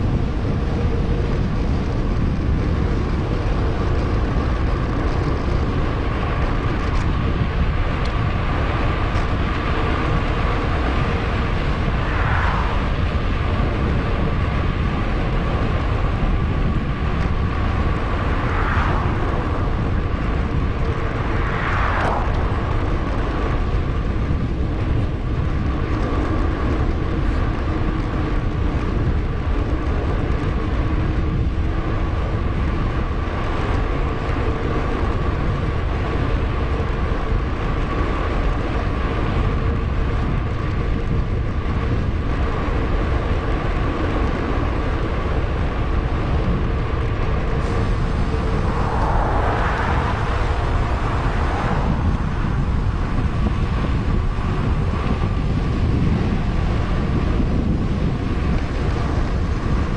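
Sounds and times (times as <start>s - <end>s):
faint whine: 0.0s - 59.9s
low rumble: 0.0s - 59.9s
wind on microphone: 0.0s - 59.9s.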